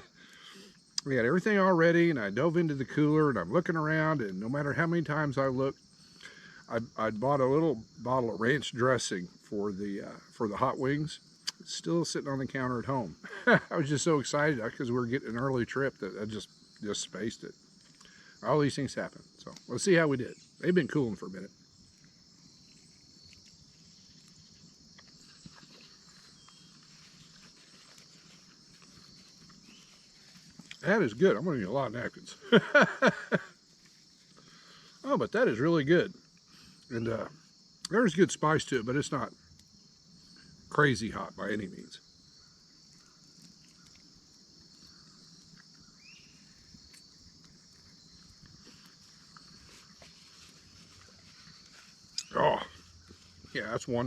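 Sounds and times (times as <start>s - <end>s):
crickets and night insects: 0.0s - 54.0s.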